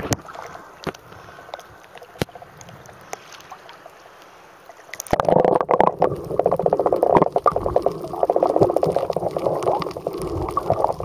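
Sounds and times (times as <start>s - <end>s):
underwater bubbling and gurgling: 0.0s - 11.0s.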